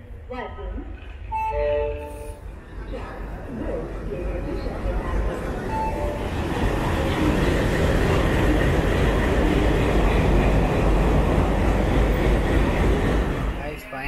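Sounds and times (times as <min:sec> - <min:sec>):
diesel train rumbling past: 0:00.0 - 0:14.0.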